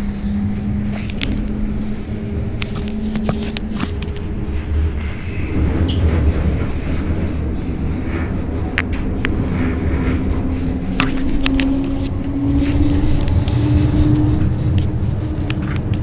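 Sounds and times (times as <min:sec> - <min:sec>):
deep rumble: 0:00.0 - 0:16.0
tram humming: 0:00.0 - 0:16.0.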